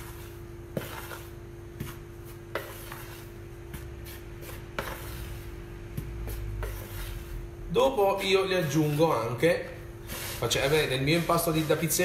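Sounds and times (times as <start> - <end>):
hands stirring flour in a bowl: 0.0 - 12.0.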